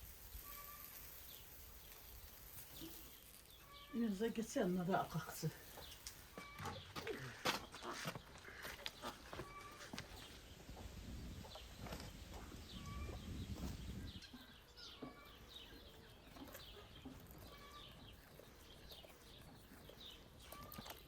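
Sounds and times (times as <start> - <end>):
birds chirping: 0.3 - 21.0.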